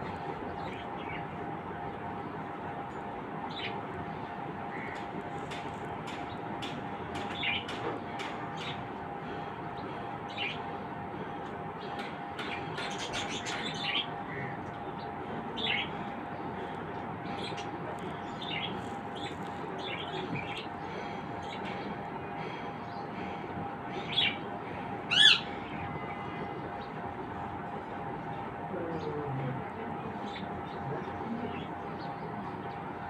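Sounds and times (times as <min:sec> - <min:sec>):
birds chirping: 0:00.0 - 0:33.0
steady background hum: 0:00.0 - 0:33.0.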